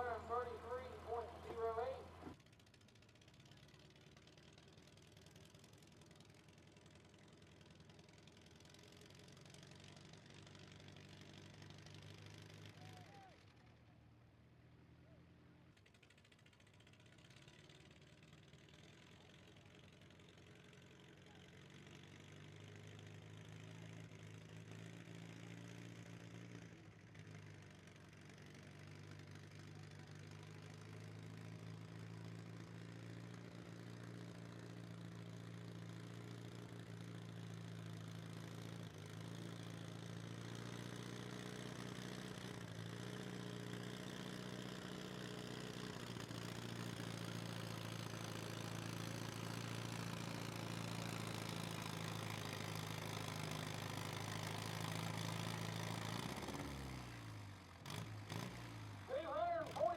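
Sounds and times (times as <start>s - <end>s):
large vehicle engine running: 0.0s - 6.6s, 15.8s - 59.9s.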